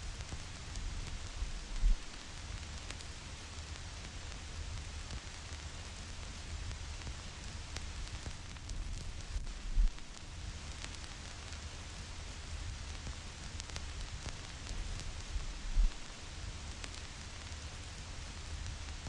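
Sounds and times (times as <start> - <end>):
vinyl record hiss and crackle: 0.0 - 19.0.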